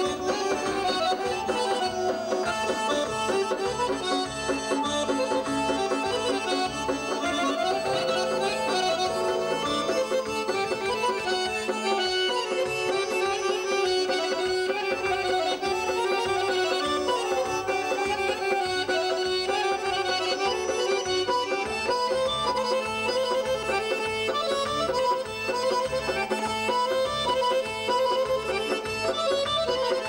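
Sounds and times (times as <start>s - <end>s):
button accordions playing folk melody: 0.0s - 30.0s.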